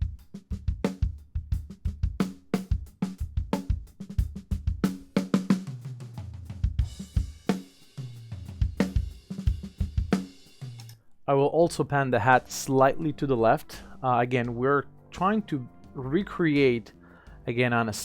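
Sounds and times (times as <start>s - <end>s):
drum kit groove: 0.0s - 11.0s, 11.7s - 18.0s.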